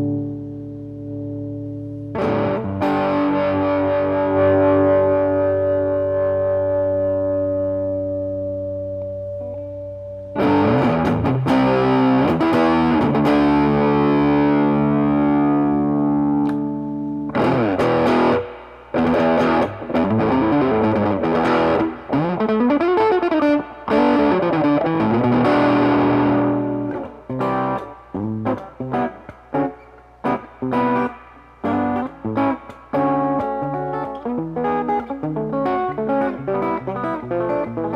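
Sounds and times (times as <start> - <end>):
electric guitar playing: 0.0 - 37.9.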